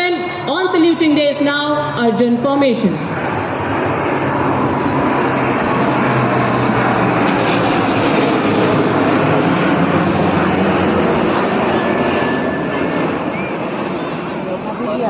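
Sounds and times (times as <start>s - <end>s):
military aircraft flying past: 0.0s - 15.0s.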